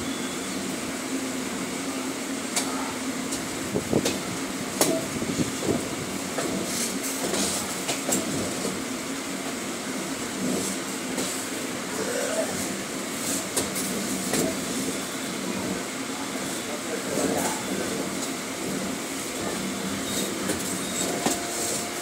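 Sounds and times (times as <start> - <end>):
train low hum: 0.0 - 22.0.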